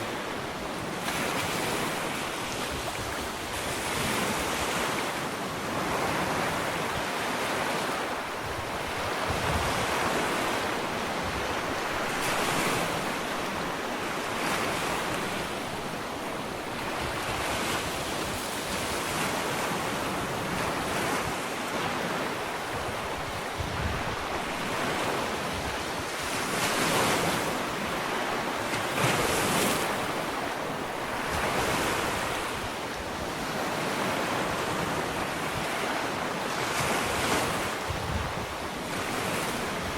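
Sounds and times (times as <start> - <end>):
ocean waves washing on beach: 0.0 - 39.9.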